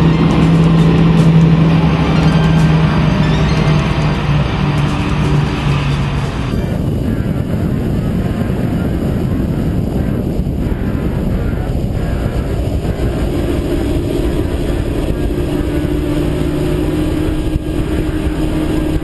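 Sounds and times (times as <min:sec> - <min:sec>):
outboard motors droning: 0:00.0 - 0:19.0
water noise against hull: 0:00.0 - 0:19.0
wind buffeting microphone: 0:00.0 - 0:19.0.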